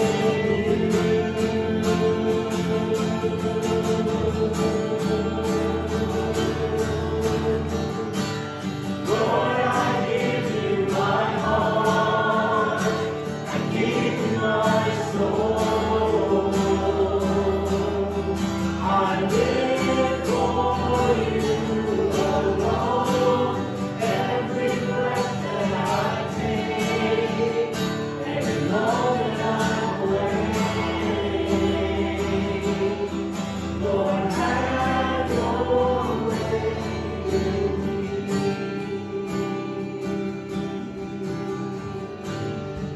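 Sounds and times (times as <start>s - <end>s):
acoustic guitar strumming: 0.0s - 42.9s
group of voices singing: 0.0s - 42.9s.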